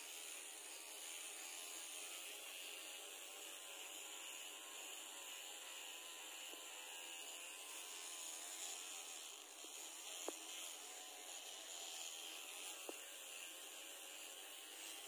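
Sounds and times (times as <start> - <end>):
facial hair remover humming: 0.1 - 15.0.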